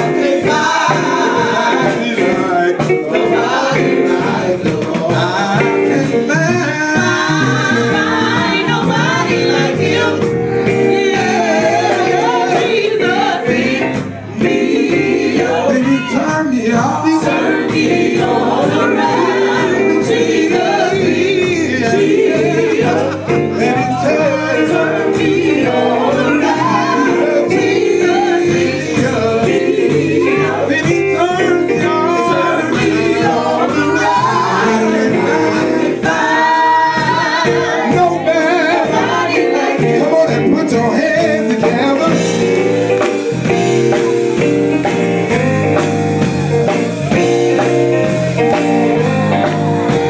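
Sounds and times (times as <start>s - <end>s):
women singing backing vocals: 0.0s - 42.2s
man singing lead: 0.0s - 43.0s
instrumental accompaniment: 0.0s - 50.0s.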